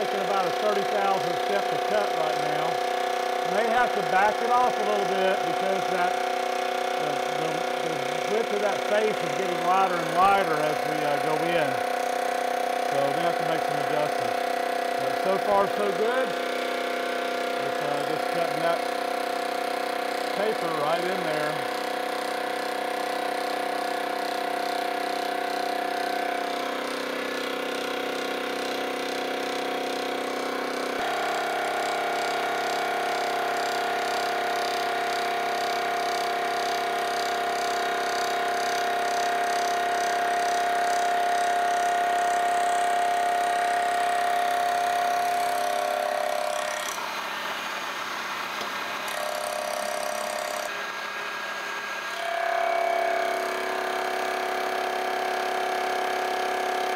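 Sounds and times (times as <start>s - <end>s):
milling machine whining: 0.0s - 56.9s.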